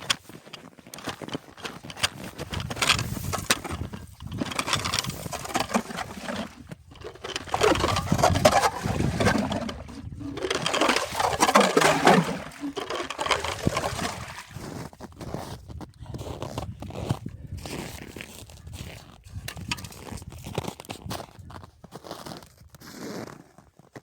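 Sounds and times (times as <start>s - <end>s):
crunching on snow and ice: 0.0s - 24.0s.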